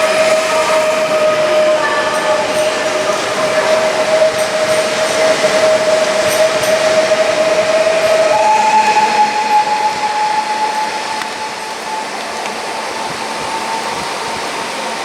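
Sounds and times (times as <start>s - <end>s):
electric train whine: 0.0s - 15.0s
train rolling noise: 0.0s - 15.0s.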